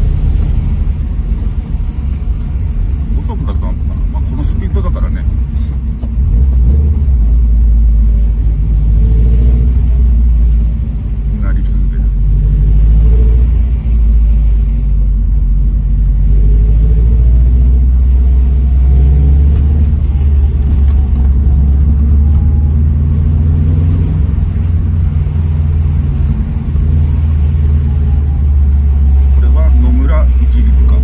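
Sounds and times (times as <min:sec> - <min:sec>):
car engine low rumble: 0:00.0 - 0:31.0.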